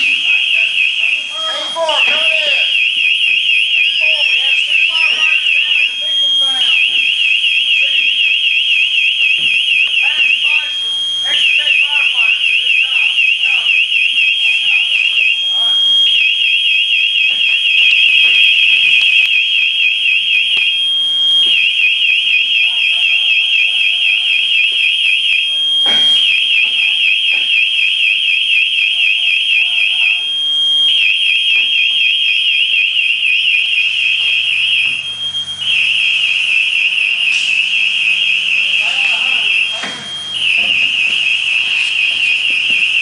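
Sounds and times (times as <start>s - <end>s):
high-pitched alarm warble: 0.0s - 43.0s
steady high alarm tone: 0.0s - 43.0s.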